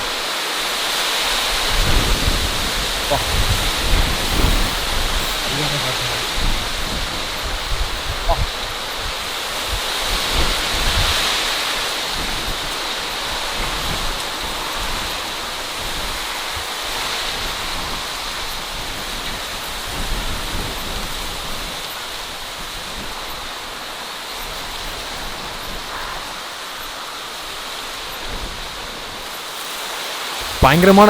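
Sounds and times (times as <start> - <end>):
wind rushing through plants: 0.0 - 31.0
wind buffeting microphone: 0.8 - 29.5.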